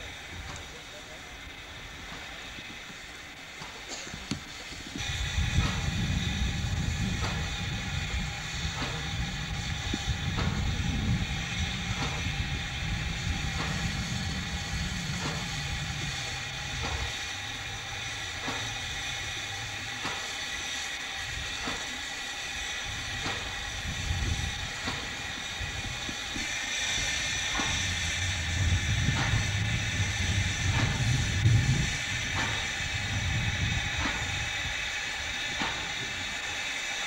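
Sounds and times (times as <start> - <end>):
steam locomotive hissing: 0.0 - 37.0
low rumble: 4.9 - 21.6, 22.8 - 36.3.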